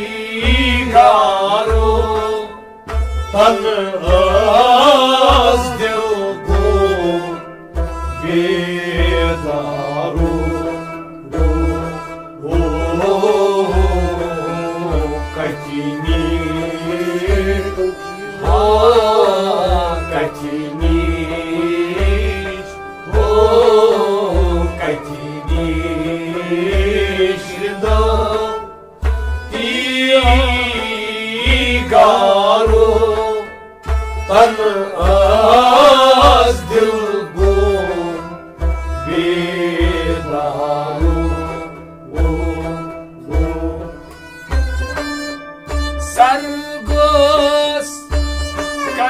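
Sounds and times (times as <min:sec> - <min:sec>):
man singing: 0:00.0 - 0:33.6, 0:34.2 - 0:44.6, 0:45.2 - 0:49.0
bowed sarangi: 0:00.0 - 0:49.0
clay pot drum beat: 0:00.0 - 0:49.0
harmonium: 0:00.0 - 0:49.0.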